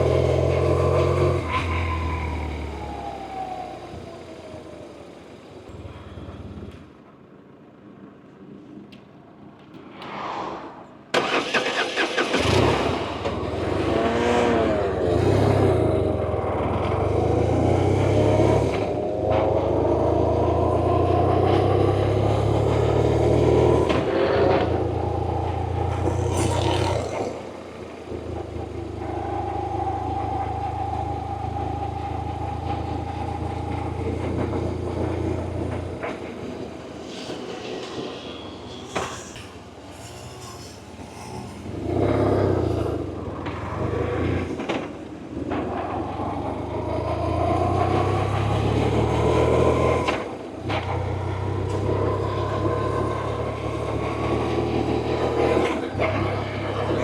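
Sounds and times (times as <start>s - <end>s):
motorcycle engine accelerating: 0.0s - 7.0s, 11.2s - 38.0s, 40.4s - 57.0s.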